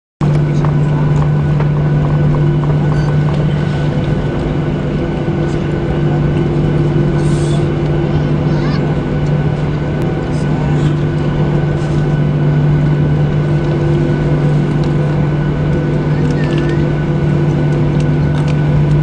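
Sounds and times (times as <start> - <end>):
airliner cabin drone: 0.2 - 19.0.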